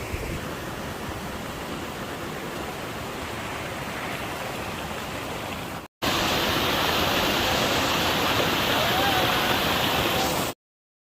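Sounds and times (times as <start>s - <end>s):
waterfall rushing: 0.4s - 10.6s.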